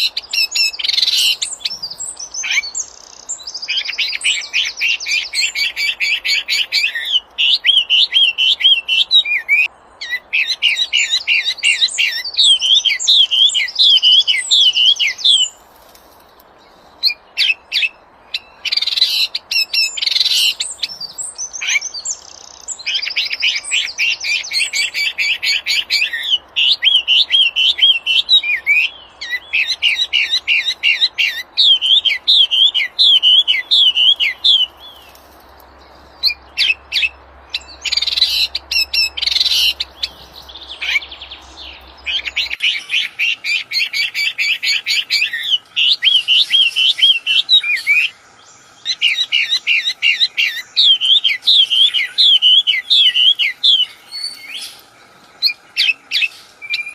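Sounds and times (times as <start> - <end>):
bird singing: 0.0 - 15.7, 16.4 - 56.9.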